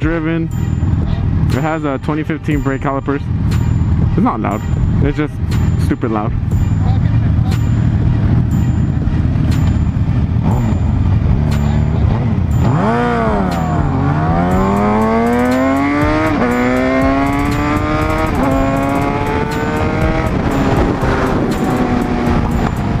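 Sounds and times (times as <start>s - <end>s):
motorcycle engine accelerating: 0.0s - 23.0s
wind rumble: 2.9s - 23.0s.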